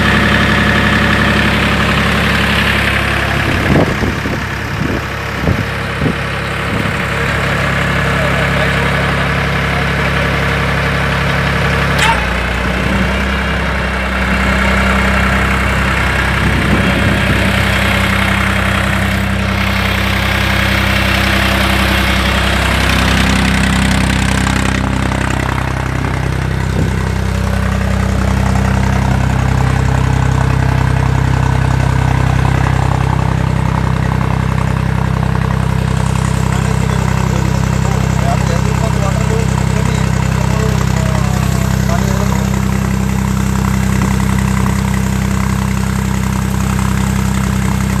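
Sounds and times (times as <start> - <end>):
diesel tractor engine running: 0.0 - 48.0.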